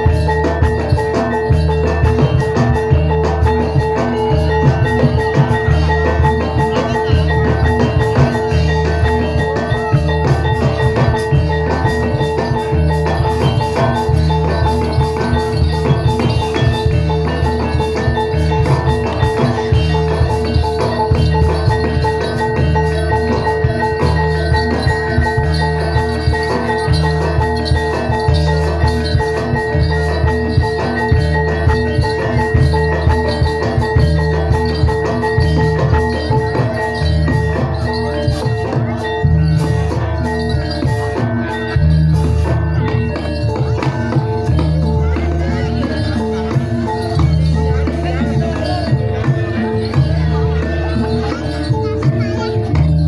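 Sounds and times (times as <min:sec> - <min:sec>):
metallophones ringing: 0:00.0 - 0:53.0.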